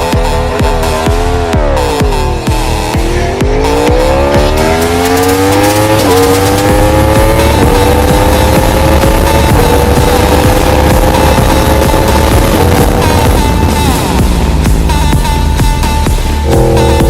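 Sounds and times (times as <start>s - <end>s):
motorcycle engine accelerating: 0.0s - 17.0s
music beats: 0.0s - 17.0s.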